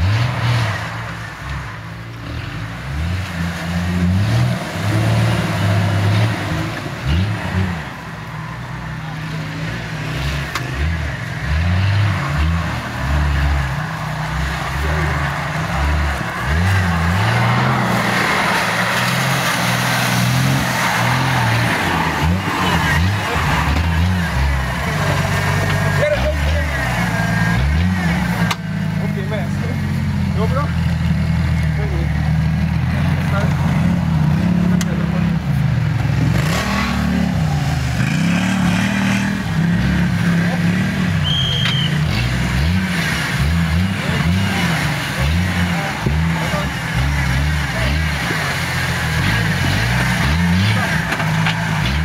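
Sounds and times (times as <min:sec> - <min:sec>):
engine revving under load: 0:00.0 - 0:52.0.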